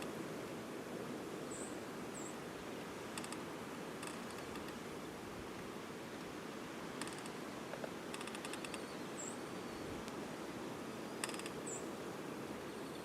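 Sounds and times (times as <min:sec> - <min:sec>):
blizzard wind hiss: 0:00.0 - 0:13.0.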